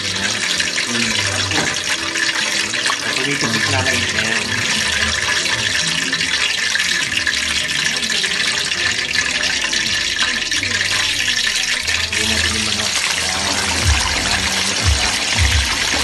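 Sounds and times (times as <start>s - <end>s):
oil sizzling in a wok: 0.0s - 16.0s.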